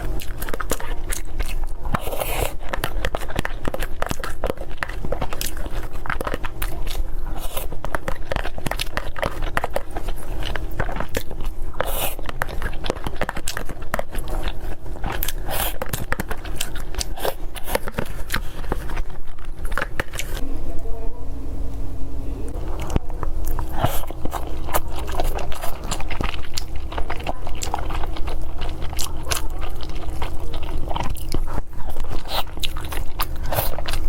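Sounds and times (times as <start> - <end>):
person chewing food: 0.0 - 20.4, 22.5 - 34.0.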